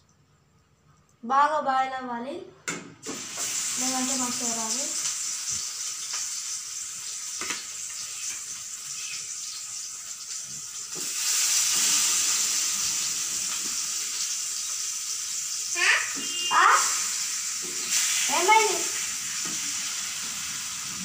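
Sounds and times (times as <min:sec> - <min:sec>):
fish sizzling in hot oil: 0:03.0 - 0:21.0.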